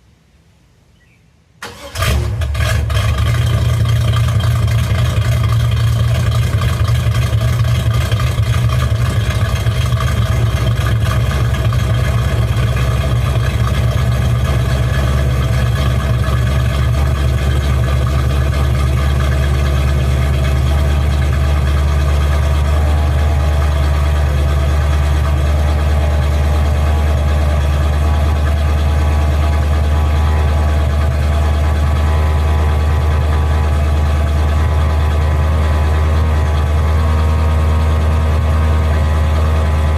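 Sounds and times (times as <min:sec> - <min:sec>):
engine idling: 0:01.6 - 0:39.9.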